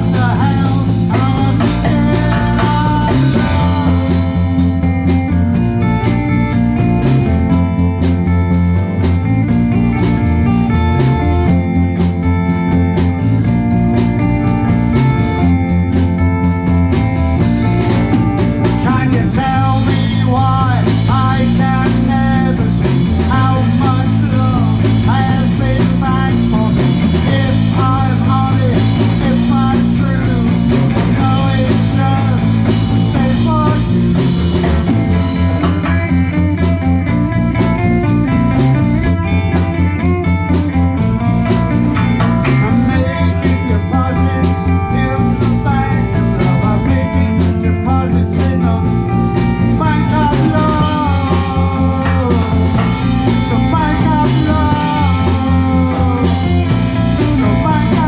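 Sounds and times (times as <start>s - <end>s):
bass and drums groove: 0.0s - 58.0s
electric guitar lead line: 0.0s - 58.0s.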